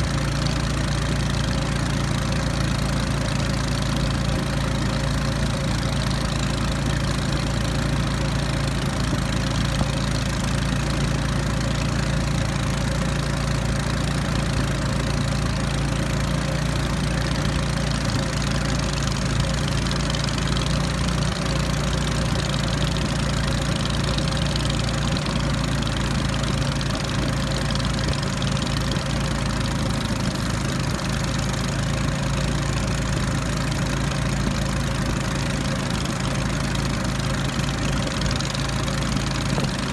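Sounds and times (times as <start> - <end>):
small engine droning: 0.0 - 39.9.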